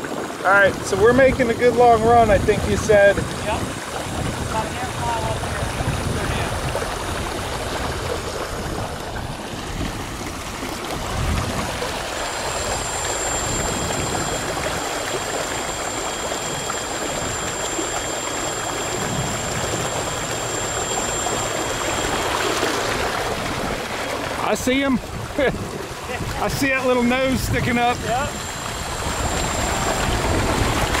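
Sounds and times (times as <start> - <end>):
thin high whine: 0.0 - 31.0
water rushing along kayak hull: 0.0 - 31.0.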